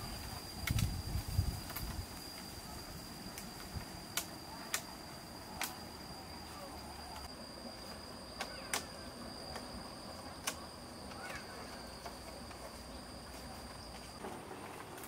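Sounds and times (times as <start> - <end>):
bamboo poles clicking: 0.0 - 6.0, 8.3 - 15.0
high-pitched insect trill: 0.0 - 14.2
faint outdoor background: 0.0 - 15.0.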